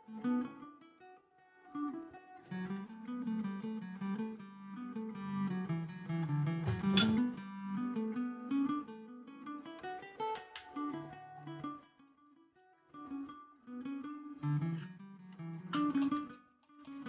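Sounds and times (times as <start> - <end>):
acoustic guitar plucked melody: 0.0 - 17.0.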